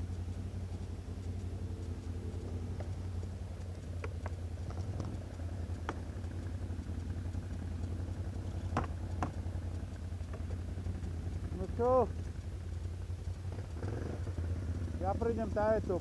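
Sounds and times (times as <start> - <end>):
atv engines idling: 0.0 - 16.0
sharp clicks and knocks: 0.0 - 16.0.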